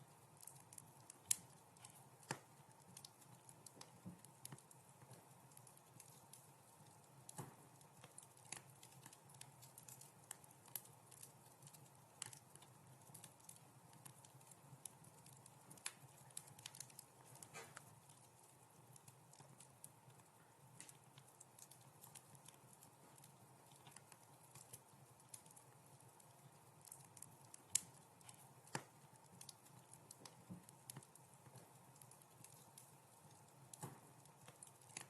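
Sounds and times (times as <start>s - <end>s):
low fire hiss: 0.0s - 35.0s
wood fire crackling: 0.0s - 35.0s.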